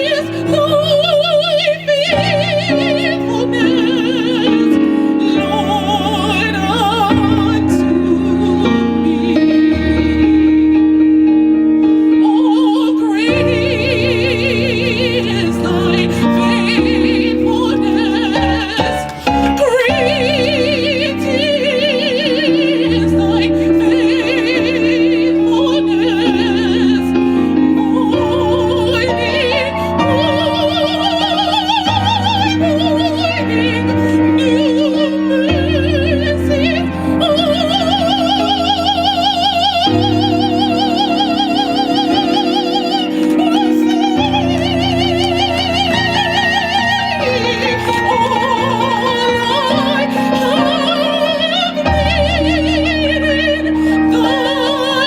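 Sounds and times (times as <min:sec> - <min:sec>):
gospel singing with vibrato: 0:00.0 - 0:55.0
sustained keyboard chords: 0:00.0 - 0:55.0.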